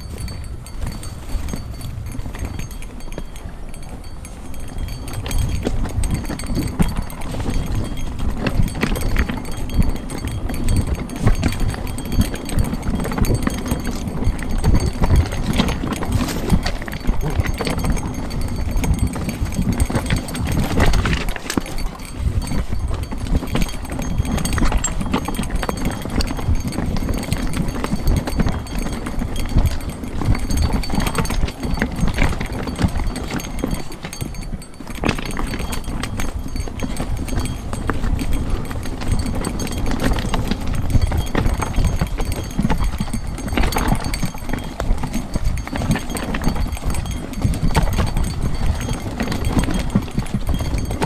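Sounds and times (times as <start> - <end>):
bike rattling over rocks: 0.0 - 51.0.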